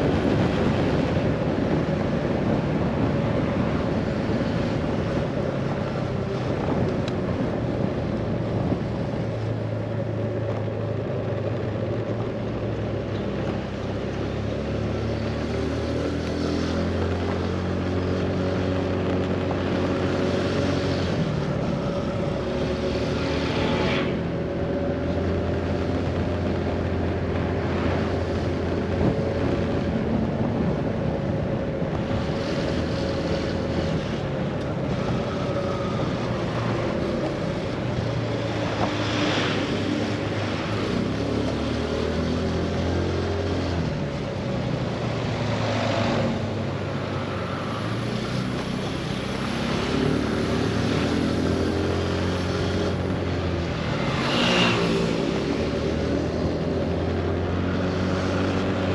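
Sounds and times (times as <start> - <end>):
road and wind noise: 0.0 - 58.9
scooter engine humming: 0.0 - 58.9.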